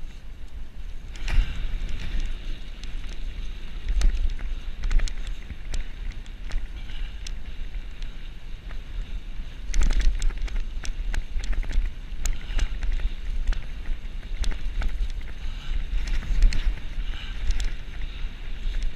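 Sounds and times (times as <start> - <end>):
bicycle rattling over bumps: 0.0 - 18.9
wind buffeting microphone: 0.0 - 18.9.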